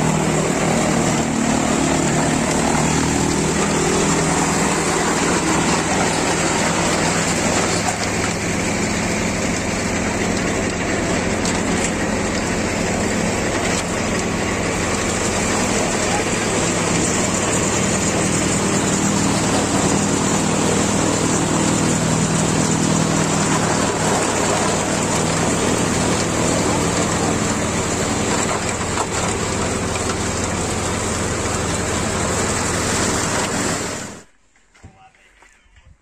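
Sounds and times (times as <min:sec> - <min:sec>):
machine hum: 0:00.0 - 0:34.7.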